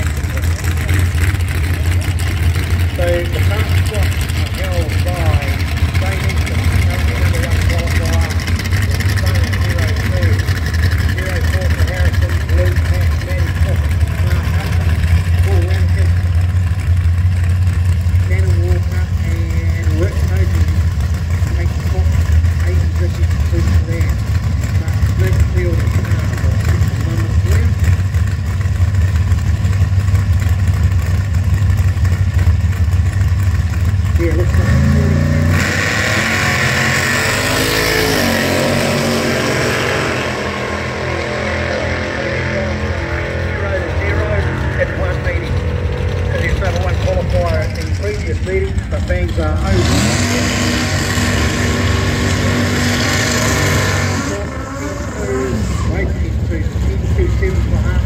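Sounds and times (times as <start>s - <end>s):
car engines idling: 0.0s - 58.0s.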